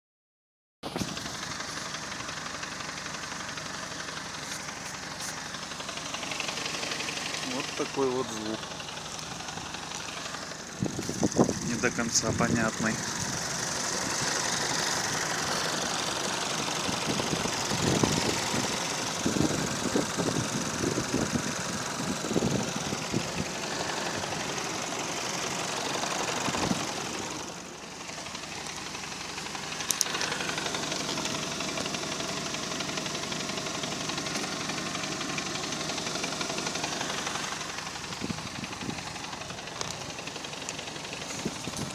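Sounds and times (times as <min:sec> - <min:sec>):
car engine idling: 0:00.8 - 0:41.9
engine knocking: 0:00.8 - 0:41.9.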